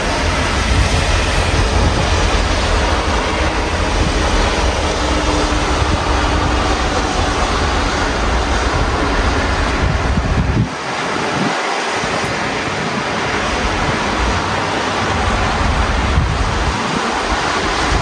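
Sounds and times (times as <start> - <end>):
deep continuous rumble: 0.0 - 18.0
steady rain hissing: 0.0 - 18.0.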